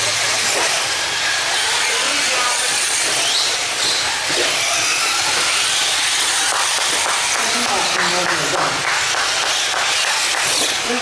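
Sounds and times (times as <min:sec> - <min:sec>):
motor whines: 0:00.0 - 0:11.0.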